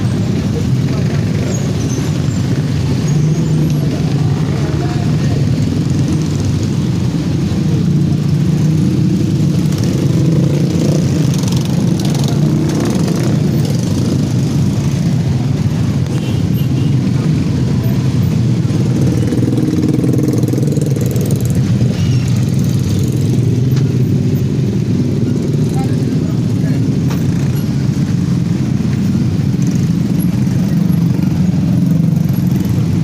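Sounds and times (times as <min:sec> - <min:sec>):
motorcycle engines idling: 0:00.0 - 0:33.0.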